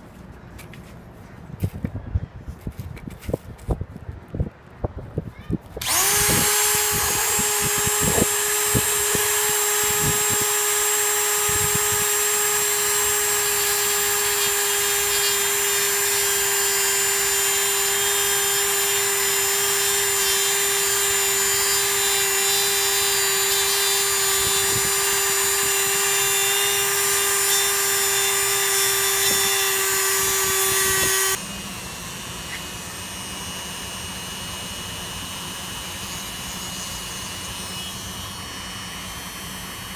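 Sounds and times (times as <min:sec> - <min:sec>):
rotary tool cutting plastic: 0:05.7 - 0:39.9
rotary tool polishing wheel running: 0:05.8 - 0:39.9.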